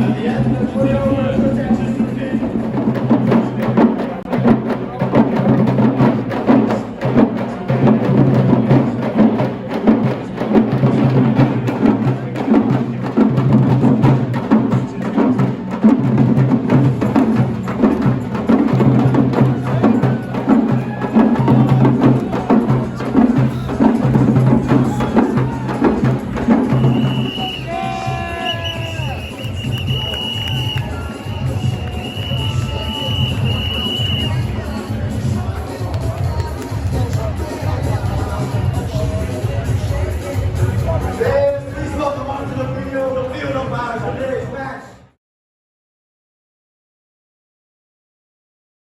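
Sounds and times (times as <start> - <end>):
drums with driving beat: 0.0 - 42.5.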